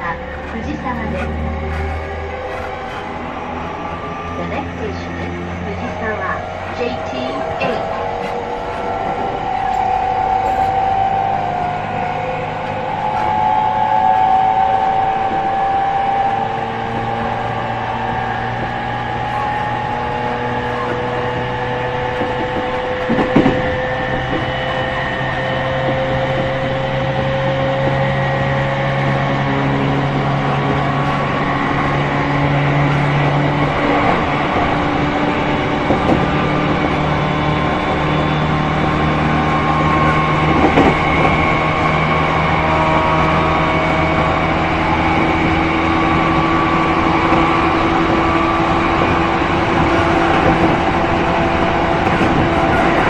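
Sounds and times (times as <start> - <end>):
electric train motors groaning: 0.0 - 53.0
wheels on rail: 0.0 - 53.0.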